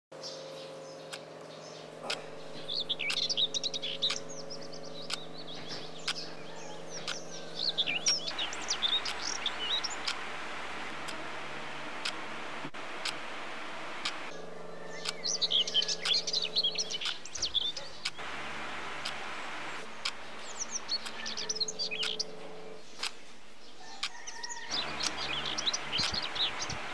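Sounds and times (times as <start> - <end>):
small songbirds chirping: 0.2 - 26.9
low steady hum: 0.4 - 23.8, 24.7 - 26.9
sharp clicks: 1.1 - 23.2, 24.0 - 26.9.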